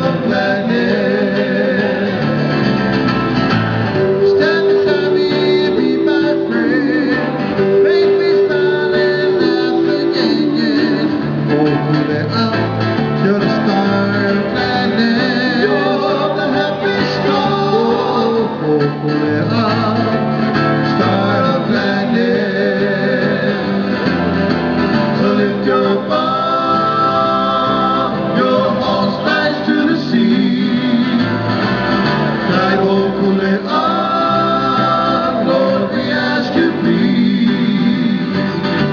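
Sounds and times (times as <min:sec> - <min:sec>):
person singing: 0:00.0 - 0:02.6, 0:03.9 - 0:24.3, 0:25.0 - 0:31.5, 0:32.4 - 0:38.9
acoustic guitar strumming: 0:00.0 - 0:38.9.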